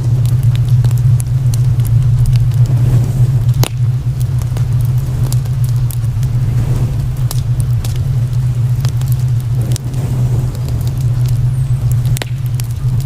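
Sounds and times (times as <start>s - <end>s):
fire crackling and popping: 0.0s - 13.0s
steady low hum: 0.0s - 13.0s.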